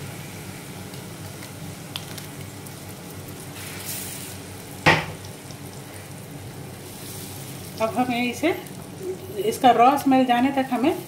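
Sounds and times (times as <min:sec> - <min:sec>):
tomato puree sizzling in a pan: 0:00.0 - 0:11.0.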